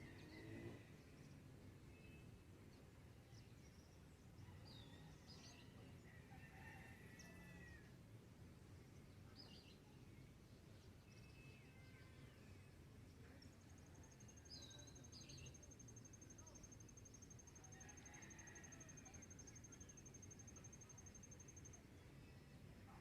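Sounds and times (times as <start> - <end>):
low background noise: 0.0 - 23.0.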